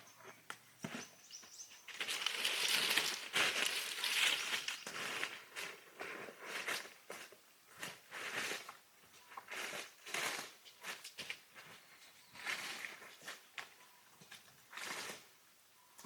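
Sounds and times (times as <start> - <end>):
rustling and scraping handling: 0.1 - 15.3.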